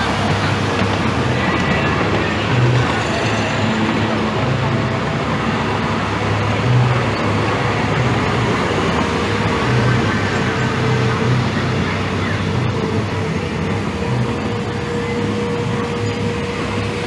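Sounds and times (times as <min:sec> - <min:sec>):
low engine hum: 0:00.0 - 0:17.0
wheels rumbling on rail: 0:00.0 - 0:17.0.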